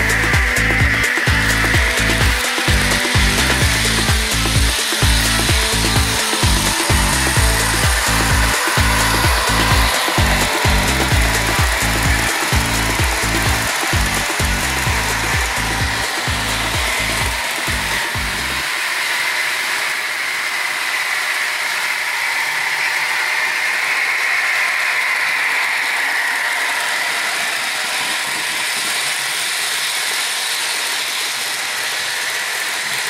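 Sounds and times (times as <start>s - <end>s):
model trains whirring and rattling: 0.0s - 33.0s.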